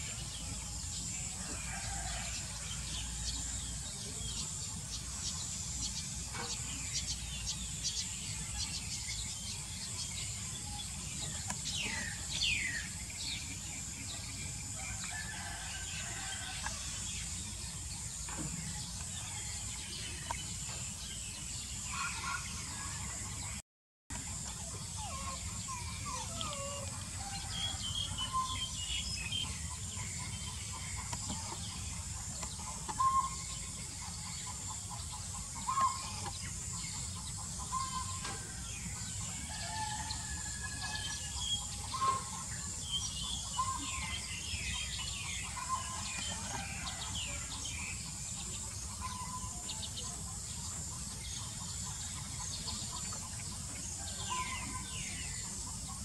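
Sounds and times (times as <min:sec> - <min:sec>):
bird calls and chirps: 0:00.0 - 0:56.0.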